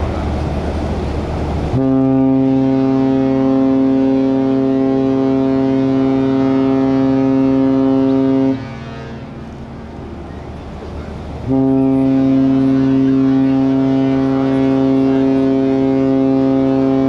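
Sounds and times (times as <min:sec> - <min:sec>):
ship horn long low blast: 0:01.7 - 0:17.0.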